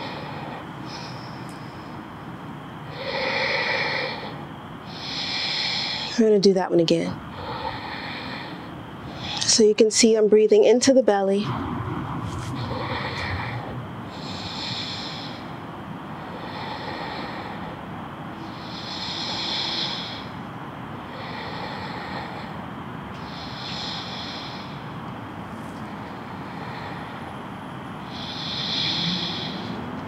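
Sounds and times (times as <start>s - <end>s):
deep breaths through nose: 0.0s - 6.2s, 7.3s - 9.5s, 12.3s - 30.0s
low background noise: 0.0s - 30.0s.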